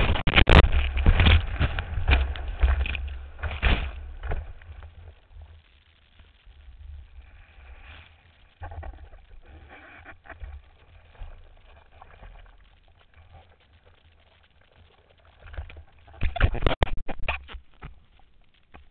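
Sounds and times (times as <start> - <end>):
muffled rush of water: 0.0 - 18.9
water splashing: 0.0 - 18.9.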